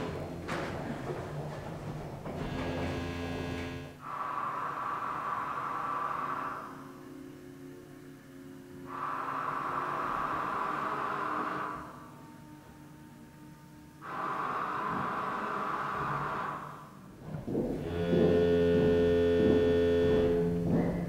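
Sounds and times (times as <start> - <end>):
low ambient drone hum: 0.0 - 21.0.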